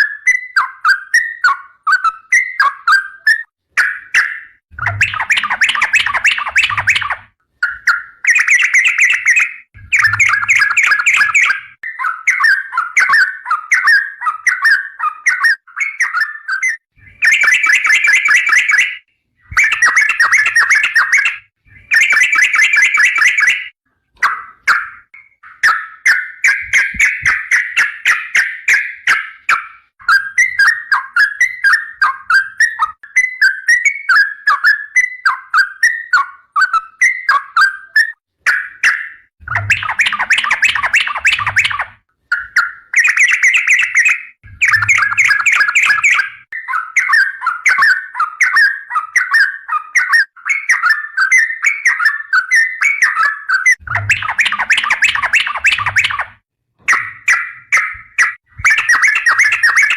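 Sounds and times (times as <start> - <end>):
bulbul chattering song: 0.3 - 35.1, 37.0 - 59.9.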